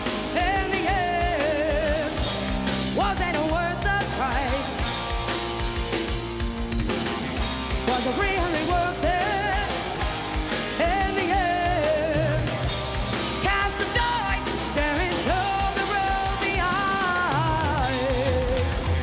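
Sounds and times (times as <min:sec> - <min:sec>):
live heavy metal band playing: 0:00.0 - 0:19.0.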